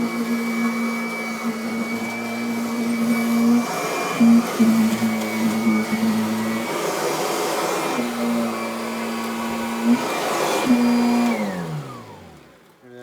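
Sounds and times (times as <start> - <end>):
vacuum motor winding down: 0.0 - 12.6
vacuum cleaner running over carpet: 0.0 - 12.7.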